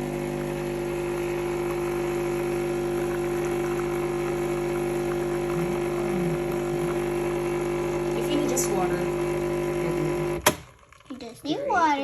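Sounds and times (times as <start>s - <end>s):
coffee machine pump humming: 0.0s - 12.0s.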